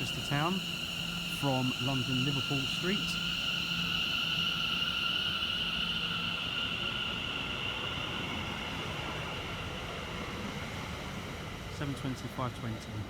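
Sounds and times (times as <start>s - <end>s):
electric train whine: 0.0s - 13.0s
train rolling noise: 0.0s - 13.0s.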